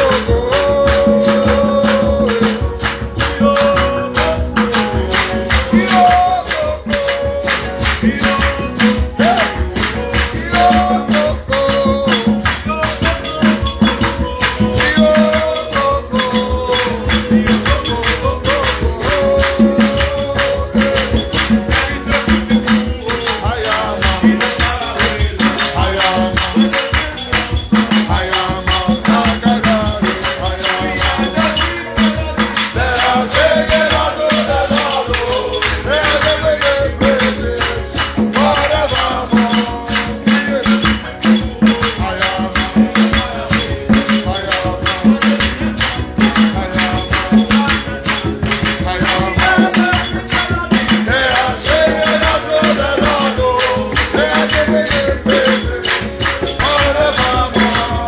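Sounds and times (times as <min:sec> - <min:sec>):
people singing: 0:00.0 - 0:58.0
shaker rhythm: 0:00.0 - 0:58.0
sustained instrumental notes: 0:00.0 - 0:58.0.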